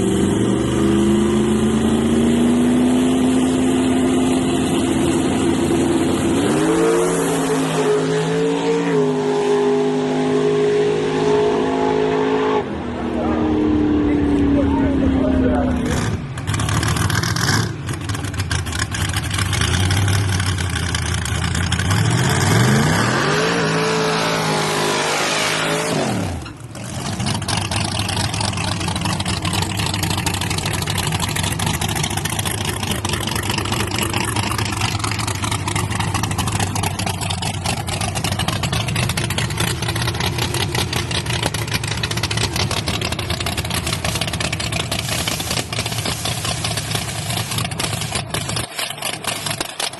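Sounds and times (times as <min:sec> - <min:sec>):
truck engine revving and idling: 0:00.0 - 0:49.9.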